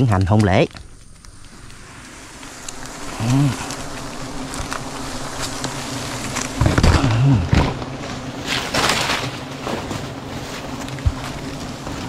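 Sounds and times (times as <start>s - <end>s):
bees buzzing: 0.9s - 12.0s.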